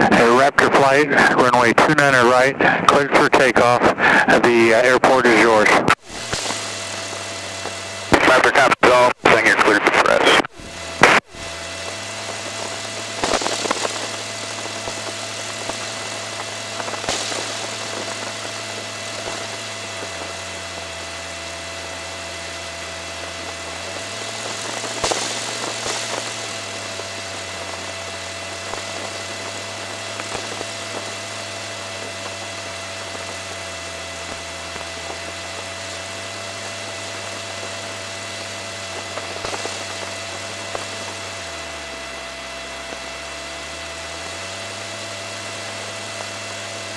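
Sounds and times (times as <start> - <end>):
aircraft piston engine running: 0.0 - 46.9
rushing surges of noise: 0.0 - 46.9
thin electronic whine: 0.0 - 46.9.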